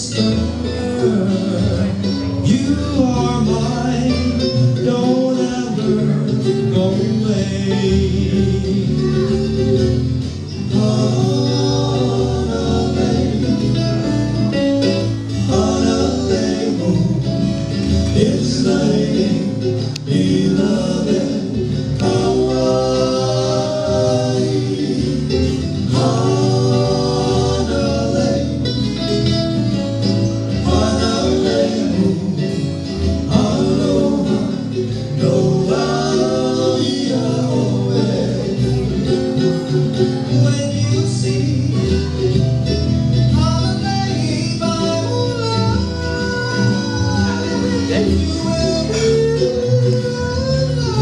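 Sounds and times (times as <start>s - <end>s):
men singing: 0.0s - 42.3s, 43.2s - 51.0s
strummed ukulele and guitar: 0.0s - 51.0s.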